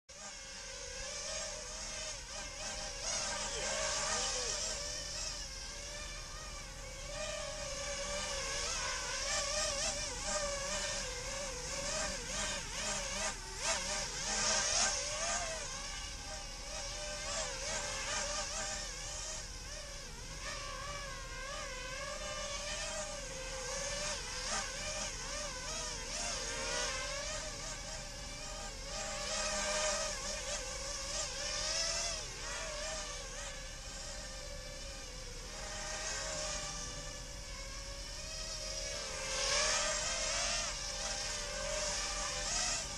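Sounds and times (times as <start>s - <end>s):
small electric motors whining: 0.1s - 42.9s.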